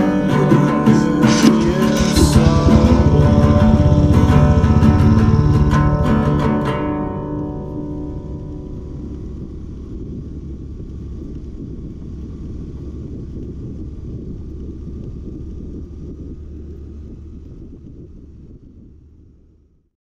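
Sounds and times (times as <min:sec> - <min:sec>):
scooter riding rumble: 0:00.0 - 0:19.7.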